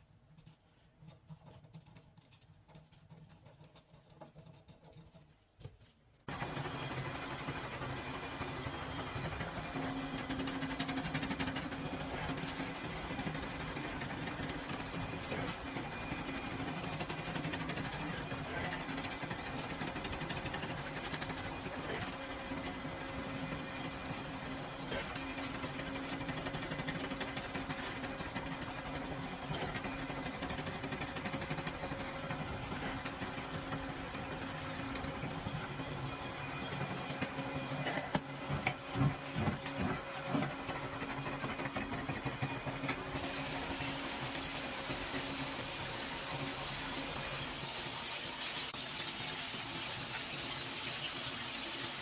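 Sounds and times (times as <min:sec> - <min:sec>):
machine humming: 0:06.3 - 0:52.0.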